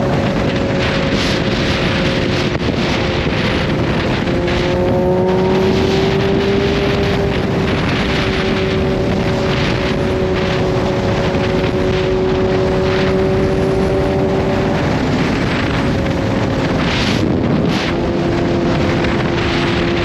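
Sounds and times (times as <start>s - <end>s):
motorcycle engine cruising: 0.0s - 20.0s
wind noise: 0.0s - 20.0s.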